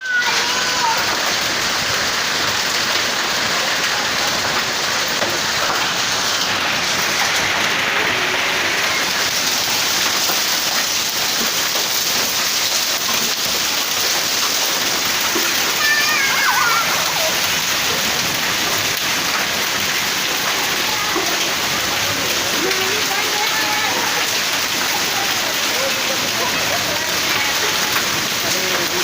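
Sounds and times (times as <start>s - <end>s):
heavy rain pattering: 0.0s - 29.0s.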